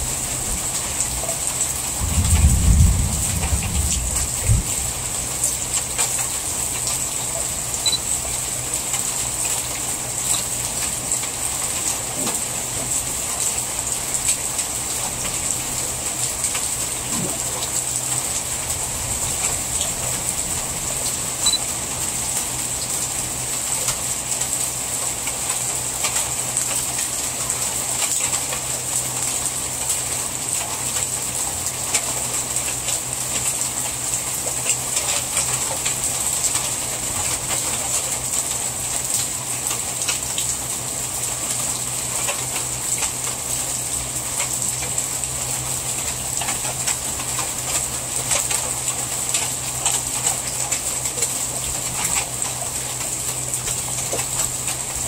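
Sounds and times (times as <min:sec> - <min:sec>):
heavy rain pattering on leaves: 0:00.0 - 0:55.0
rain on plastic cover: 0:00.0 - 0:55.0.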